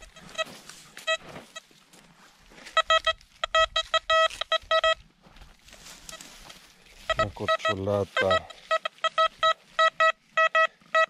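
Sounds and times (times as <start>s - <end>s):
metal detector beeping: 0.0s - 1.7s, 2.6s - 5.1s, 5.9s - 11.0s.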